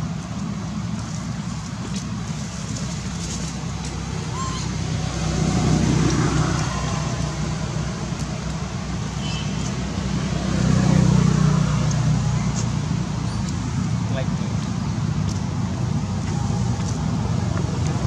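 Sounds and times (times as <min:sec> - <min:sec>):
passing motor traffic: 0:00.0 - 0:18.0.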